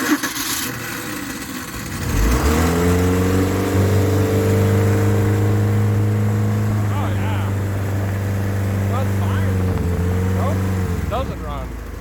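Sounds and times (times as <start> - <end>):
boat engine starting and running: 0.0 - 12.0.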